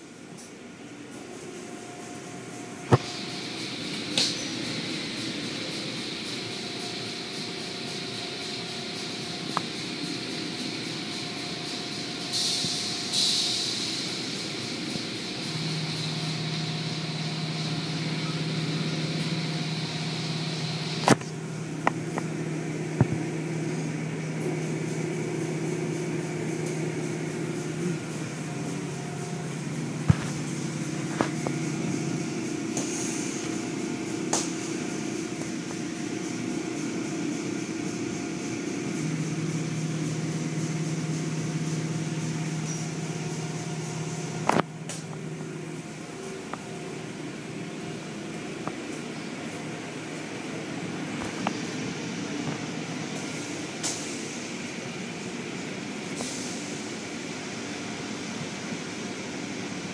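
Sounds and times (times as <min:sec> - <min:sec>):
car wash mechanical hum: 0:00.0 - 0:59.9.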